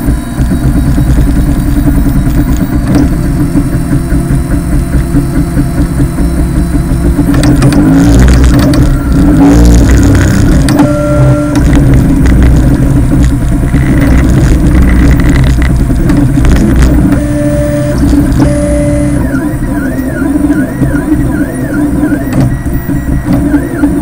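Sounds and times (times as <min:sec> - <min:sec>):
low hum: 0:00.0 - 0:24.0
stepper motors whining: 0:00.0 - 0:24.0.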